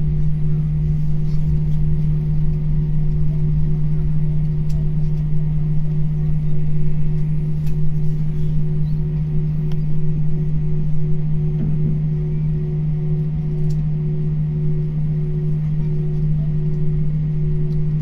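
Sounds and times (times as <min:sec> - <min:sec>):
aircraft engine hum: 0:00.0 - 0:18.0
low rumble of rolling airframe: 0:00.0 - 0:18.0.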